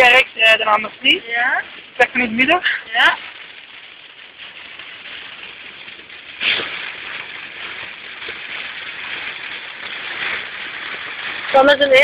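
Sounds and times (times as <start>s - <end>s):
rain on car: 0.0s - 12.0s
surge of water noise: 0.0s - 12.0s
tyres hissing through water: 0.0s - 12.0s.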